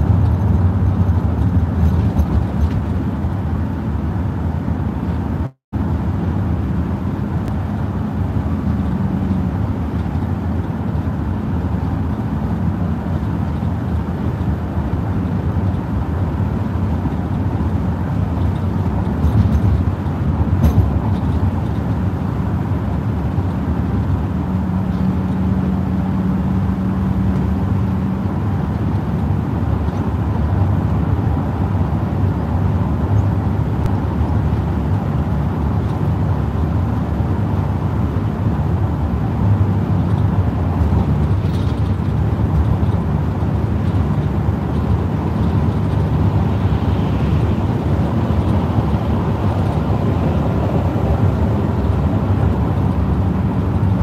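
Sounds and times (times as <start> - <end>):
car road noise on wet pavement: 0.0 - 54.0.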